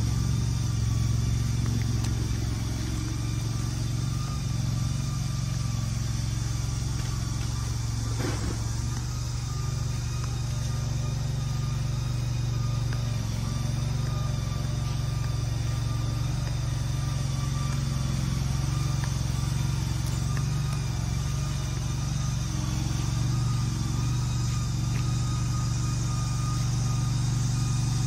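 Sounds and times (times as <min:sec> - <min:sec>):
engine droning: 0:00.0 - 0:28.0.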